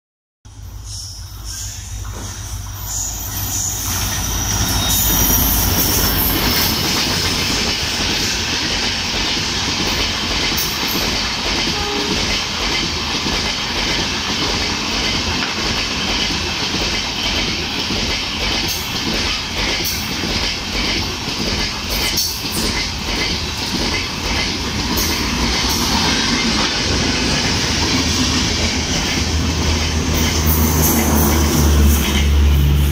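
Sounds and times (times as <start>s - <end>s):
train passing with heavy rumble: 0.5s - 32.9s.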